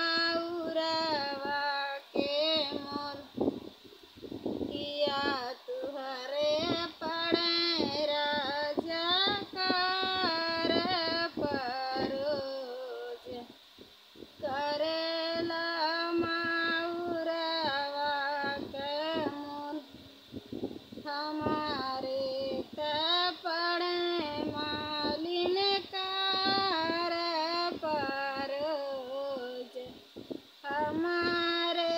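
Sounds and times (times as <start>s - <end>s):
woman singing unaccompanied: 0.0s - 3.6s, 4.5s - 13.6s, 14.4s - 20.0s, 21.0s - 31.9s.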